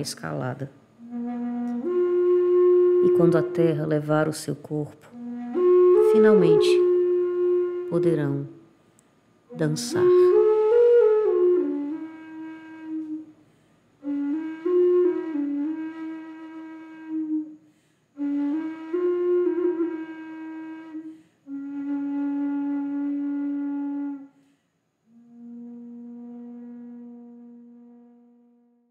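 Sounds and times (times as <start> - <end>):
flute playing slow phrases: 0.9 - 4.3, 5.1 - 28.9.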